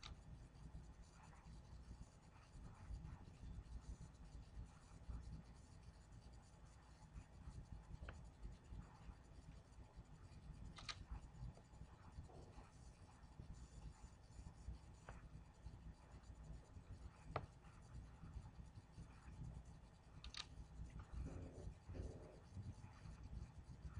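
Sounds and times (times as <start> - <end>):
low room hum: 0.0 - 23.9.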